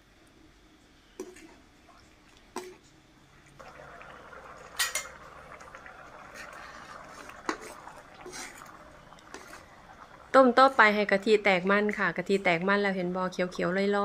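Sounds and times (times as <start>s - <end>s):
cream bubbling and sizzling: 1.2s - 13.9s.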